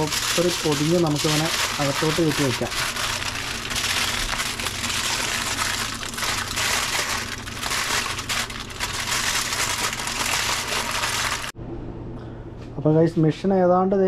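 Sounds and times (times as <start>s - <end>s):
aluminium foil crinkling: 0.0s - 11.6s.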